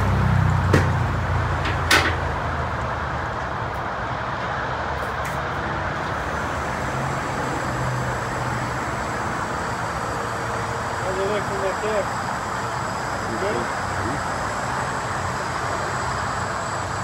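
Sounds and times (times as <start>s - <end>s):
vehicle lift motor hum: 0.0s - 17.0s.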